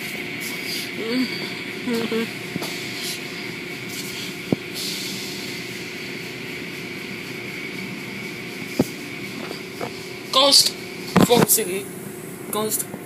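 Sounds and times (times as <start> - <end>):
mechanical hiss and hum: 0.0 - 13.0.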